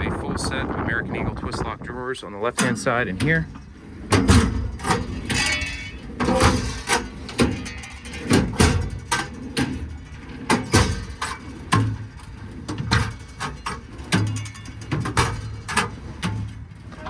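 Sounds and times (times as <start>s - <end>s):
tool drawers clacking open and shut: 2.4s - 17.0s
drawer rattling: 2.5s - 17.0s.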